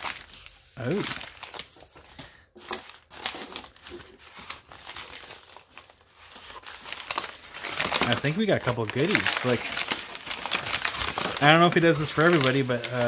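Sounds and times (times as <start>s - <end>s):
newspaper crinkling and rustling: 0.0s - 13.0s.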